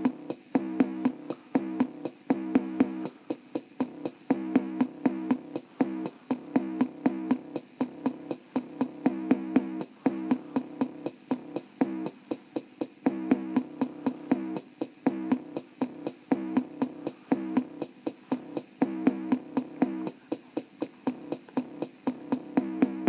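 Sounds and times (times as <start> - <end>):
electronic music through tv speaker: 0.0 - 23.0.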